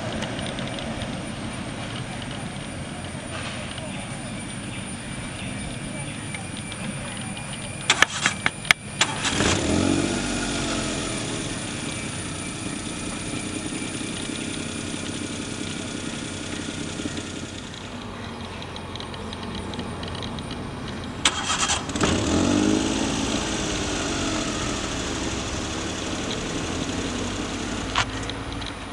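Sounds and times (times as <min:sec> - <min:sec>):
sharp clicks: 0:00.0 - 0:03.9, 0:06.3 - 0:09.8, 0:10.6 - 0:28.9
jet engine taxiing: 0:00.0 - 0:28.9
motor vehicle engine: 0:00.0 - 0:28.9.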